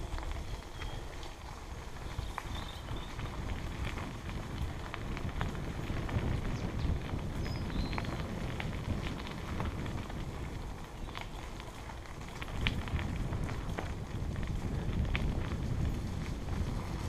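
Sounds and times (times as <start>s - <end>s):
bike rattles and clicks: 0.0s - 17.0s
bike tyres rumbling on dirt: 0.0s - 17.0s
wind buffeting microphone: 0.0s - 17.0s.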